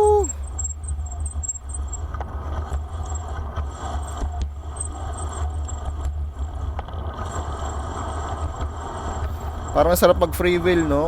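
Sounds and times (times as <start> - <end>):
bicycle clicks: 0.0 - 11.0
road and tyre noise: 0.0 - 11.0.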